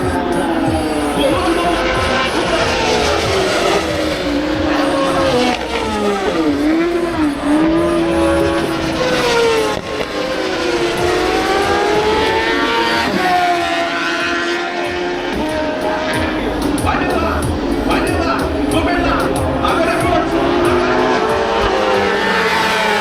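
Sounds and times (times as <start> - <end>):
racing motorcycle engines: 0.0 - 23.0.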